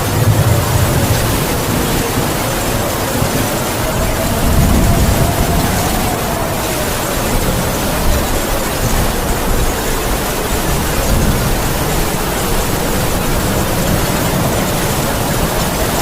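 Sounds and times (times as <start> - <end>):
heavy rain falling: 0.0 - 16.0
wind howling: 0.0 - 16.0.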